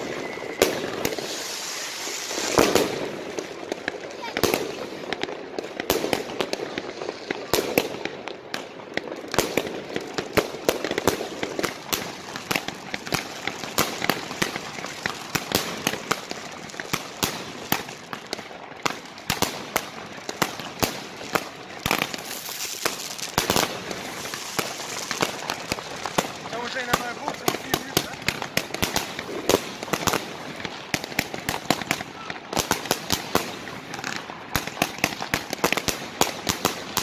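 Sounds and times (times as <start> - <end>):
firework bangs and crackles: 0.0 - 37.0.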